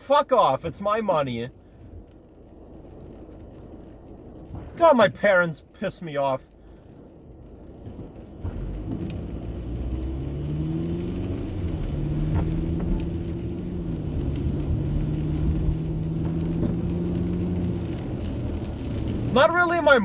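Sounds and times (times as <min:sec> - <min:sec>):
car engine: 0:00.0 - 0:20.0
road rumble: 0:00.0 - 0:20.0.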